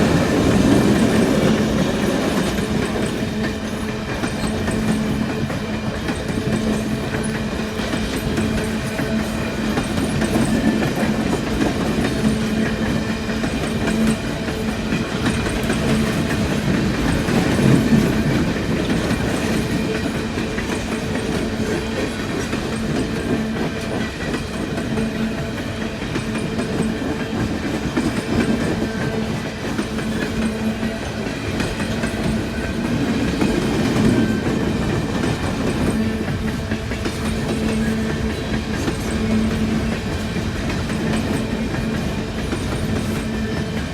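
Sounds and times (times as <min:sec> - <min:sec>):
train rumble: 0:00.0 - 0:43.9
train wheels clacking over rail joints: 0:00.0 - 0:43.9.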